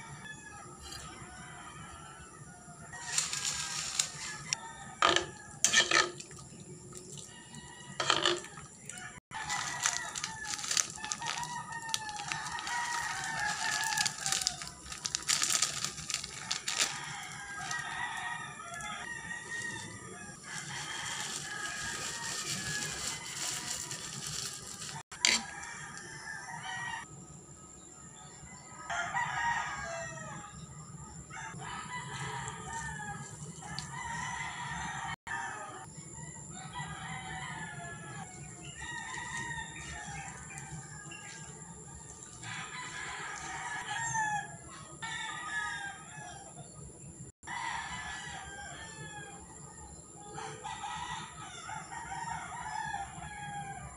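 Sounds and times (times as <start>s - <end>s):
rooster crowing: 0.0s - 6.2s, 7.2s - 27.1s, 28.4s - 30.7s, 31.3s - 46.6s, 47.4s - 53.9s.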